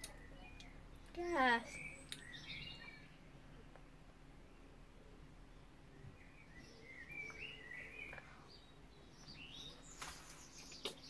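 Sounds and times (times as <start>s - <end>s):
faint birdsong chirping: 0.0s - 11.0s.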